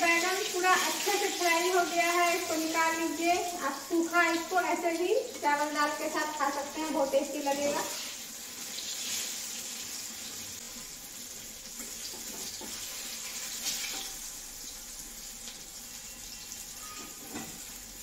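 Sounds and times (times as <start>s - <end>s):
eggplant frying in oil: 0.0s - 18.0s.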